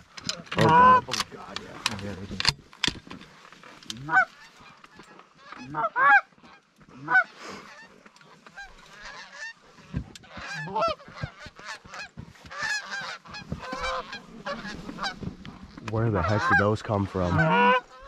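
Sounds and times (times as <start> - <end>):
geese honking: 0.0 - 2.2, 3.6 - 18.0.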